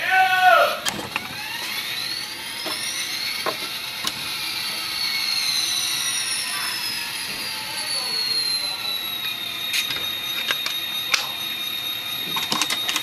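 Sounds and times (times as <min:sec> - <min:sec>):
turbocharger whine: 0:00.0 - 0:13.0.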